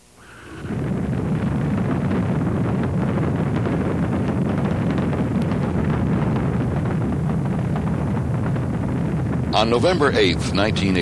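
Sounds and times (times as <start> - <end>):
rocket engines rumbling and crackling: 0.0 - 11.0.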